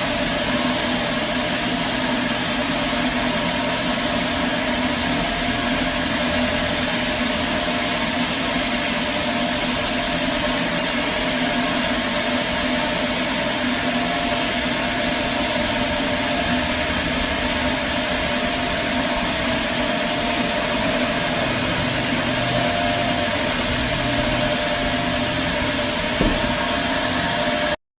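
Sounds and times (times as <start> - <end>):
sawmill machinery drone: 0.0 - 27.8.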